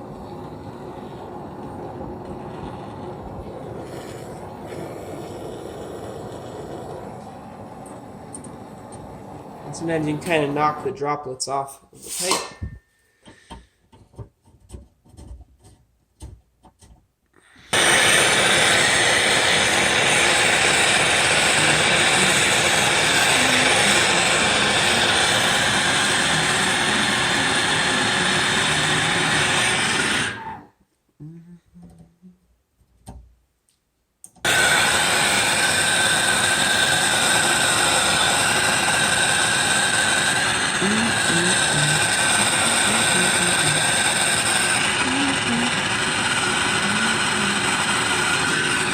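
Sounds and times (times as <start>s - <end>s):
soldering torch flame hissing: 0.0s - 10.7s, 11.9s - 12.8s, 17.4s - 30.6s, 34.4s - 48.9s.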